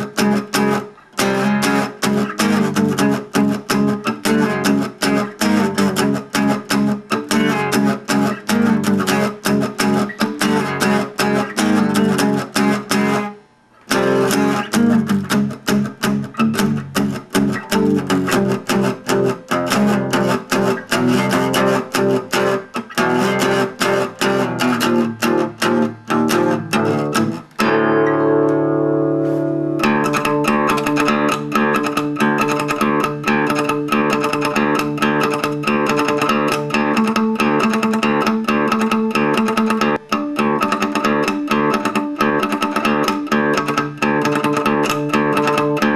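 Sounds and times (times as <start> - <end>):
plucked guitar music: 0.0 - 45.9.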